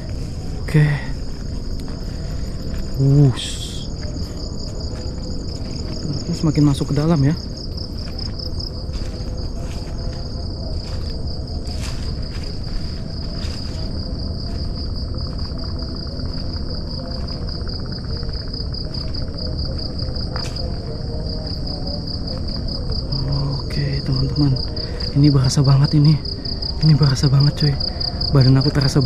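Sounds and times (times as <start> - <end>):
handheld camera rumble: 0.0 - 25.4
footsteps on dirt path: 0.0 - 29.0
insects trilling: 0.0 - 29.0.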